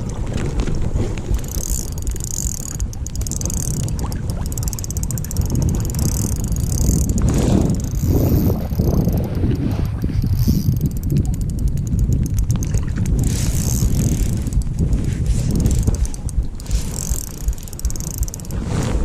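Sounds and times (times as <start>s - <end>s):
wind rumble on microphone: 0.0s - 19.0s
fishing reel clicking whir: 1.2s - 18.8s.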